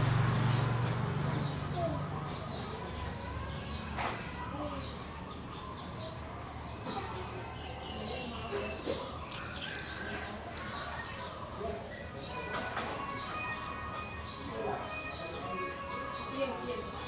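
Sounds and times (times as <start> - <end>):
birds chirping: 1.1 - 17.0.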